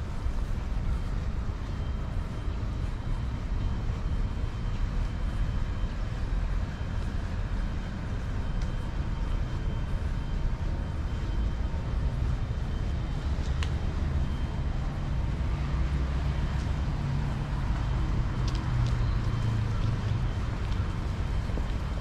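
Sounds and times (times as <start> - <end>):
city background rumble: 0.0 - 22.0.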